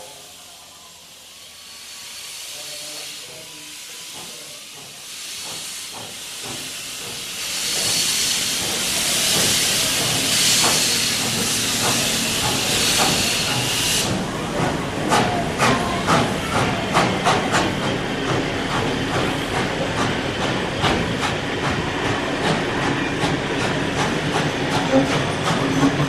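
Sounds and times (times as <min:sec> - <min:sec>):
steam hissing: 0:00.0 - 0:26.0.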